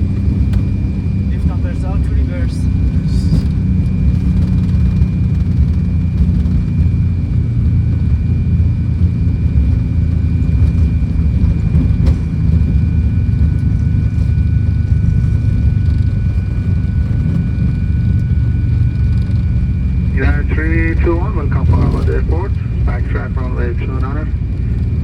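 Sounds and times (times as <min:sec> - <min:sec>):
jet engines low rumble: 0:00.0 - 0:25.0
thin steady whine: 0:00.0 - 0:25.0.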